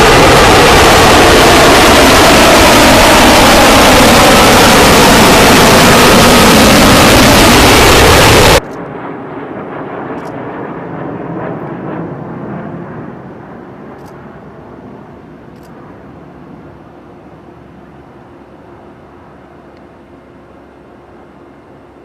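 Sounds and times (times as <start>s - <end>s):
jet engine roar: 0.0s - 22.0s
jet rumble: 0.0s - 22.0s.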